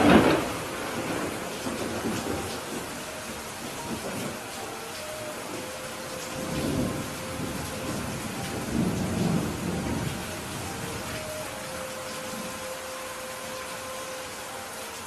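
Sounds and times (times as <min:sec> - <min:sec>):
low thunder rumbling: 0:00.0 - 0:12.6
rain falling: 0:00.0 - 0:15.0.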